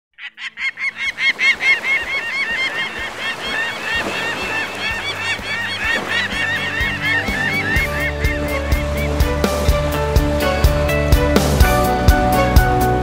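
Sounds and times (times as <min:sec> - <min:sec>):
flock of birds calling: 0:00.2 - 0:10.9.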